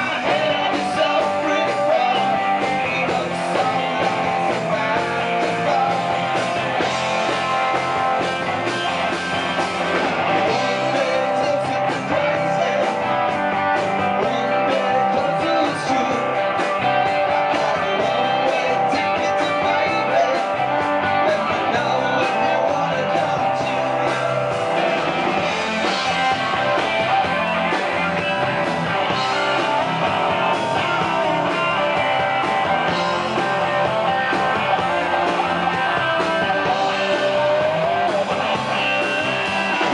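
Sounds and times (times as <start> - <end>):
person singing: 0.0 - 9.3, 10.2 - 24.8, 29.0 - 39.9
bass guitar: 0.0 - 39.9
electric guitar: 0.0 - 39.9.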